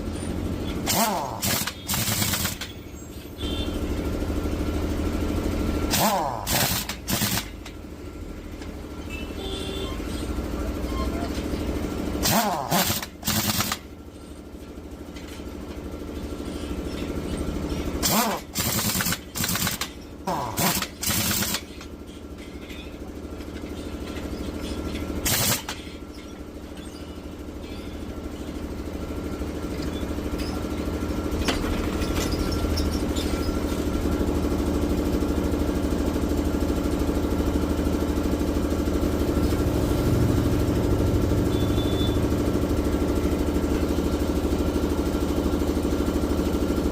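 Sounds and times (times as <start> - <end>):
motor running: 0.1 - 46.8.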